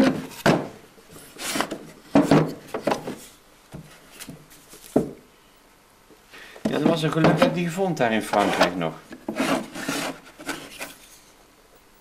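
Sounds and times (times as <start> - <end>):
wooden blocks knocking and scraping: 0.0 - 5.2, 6.6 - 11.1.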